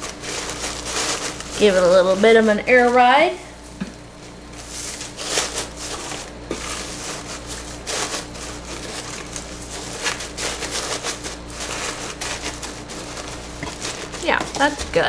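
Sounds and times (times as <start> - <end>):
paper rustling and crunching: 0.0 - 3.3, 4.3 - 15.0.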